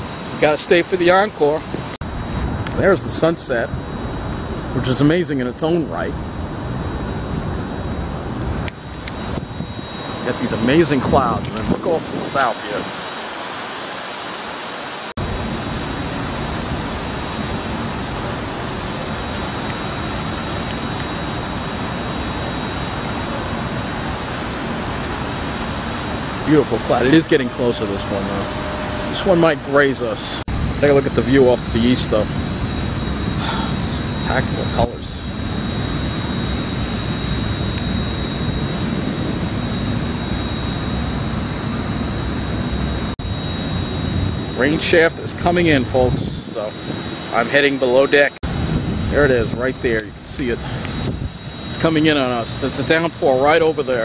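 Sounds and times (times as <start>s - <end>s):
road traffic roar: 0.0s - 54.0s
rushing outdoor noise: 0.0s - 54.0s
thin high whine: 0.0s - 54.0s.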